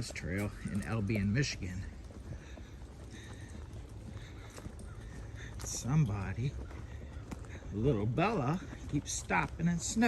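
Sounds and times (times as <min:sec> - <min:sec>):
footsteps on a trail: 0:00.0 - 0:10.0.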